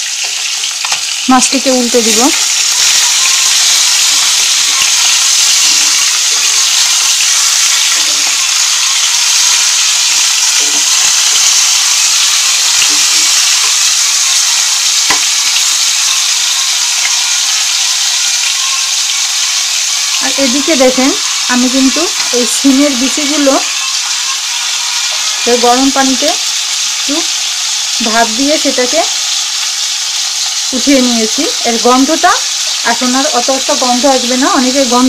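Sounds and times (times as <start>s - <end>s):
fish sizzling in oil: 0.0s - 35.0s.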